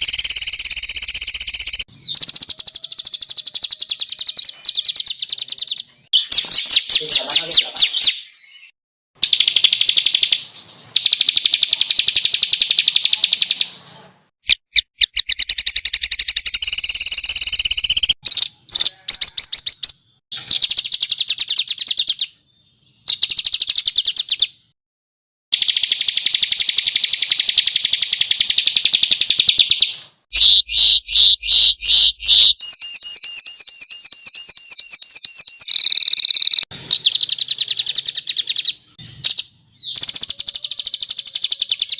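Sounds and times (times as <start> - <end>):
songbirds trilling: 0.0 - 24.5, 25.6 - 41.9.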